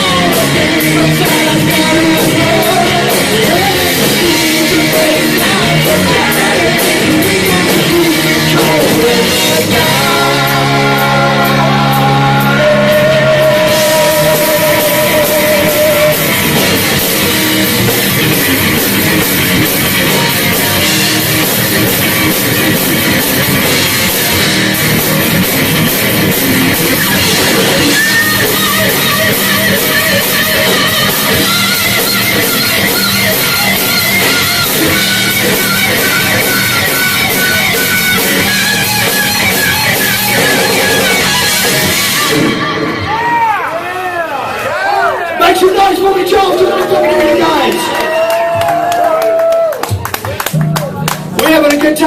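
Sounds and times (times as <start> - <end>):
heavy metal band playing: 0.0 - 49.7.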